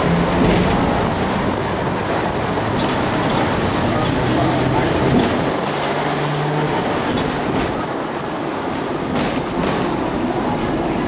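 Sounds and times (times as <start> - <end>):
light rail clacks: 0.0 - 11.0
tram wheel-on-rail rumble: 0.0 - 11.0.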